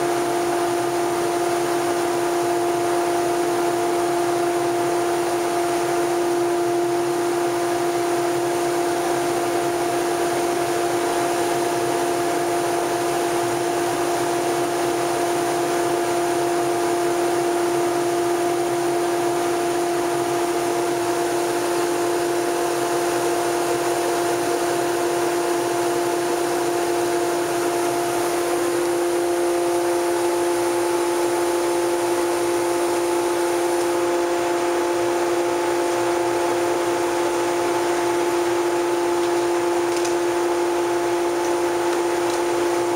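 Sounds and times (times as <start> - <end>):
spray booth mechanical hum: 0.0 - 42.9.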